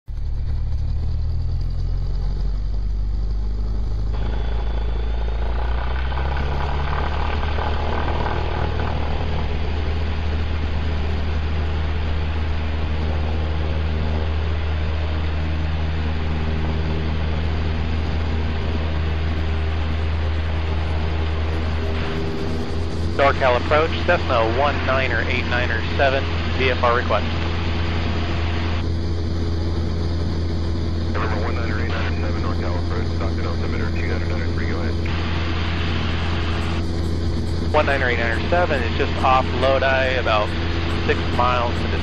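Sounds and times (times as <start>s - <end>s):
propeller engine droning: 0.0s - 42.0s
rush of air and cabin noise: 3.5s - 42.0s.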